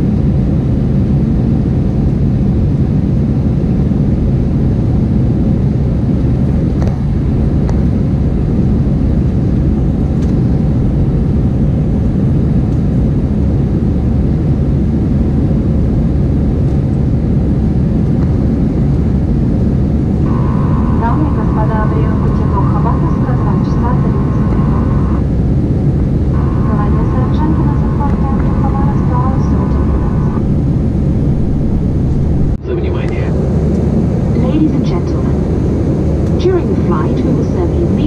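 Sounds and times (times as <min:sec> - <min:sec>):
airliner cabin rumble: 0:00.0 - 0:38.0
faint steady hum: 0:05.1 - 0:38.0.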